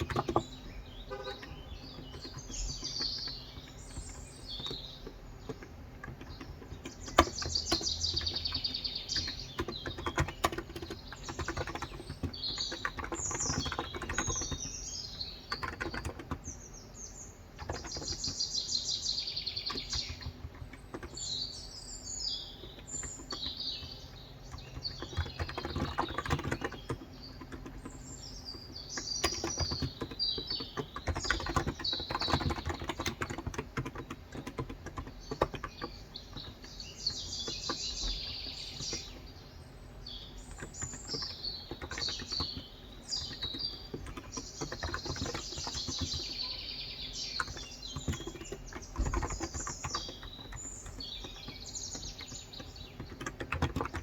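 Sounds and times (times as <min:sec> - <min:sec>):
keyboard typing: 0:00.0 - 0:16.6, 0:17.5 - 0:18.5, 0:19.3 - 0:21.7, 0:22.5 - 0:39.3, 0:40.3 - 0:54.0
small birds chirping: 0:00.0 - 0:54.0.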